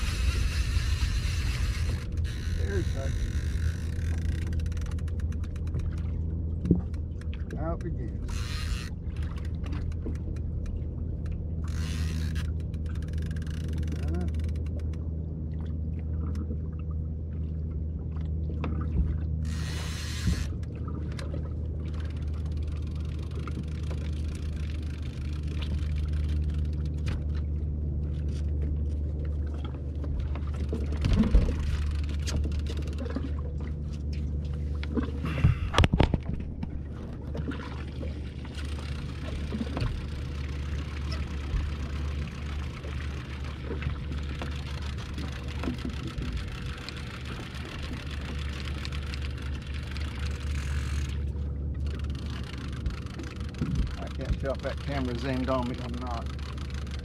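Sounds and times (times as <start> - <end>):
outboard motor idling: 0.0 - 57.0.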